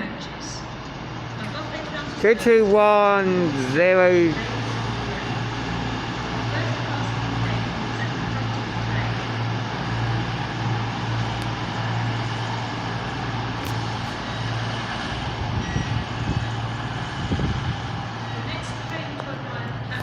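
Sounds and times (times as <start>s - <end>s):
diesel train engines humming: 0.0s - 20.0s.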